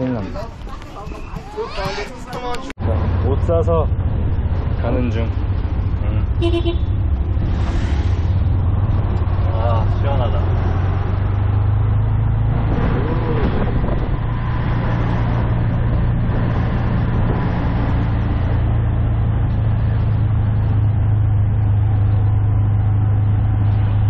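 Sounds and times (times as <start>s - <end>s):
street traffic: 0.0s - 24.0s
auto-rickshaw engine droning: 2.8s - 24.0s.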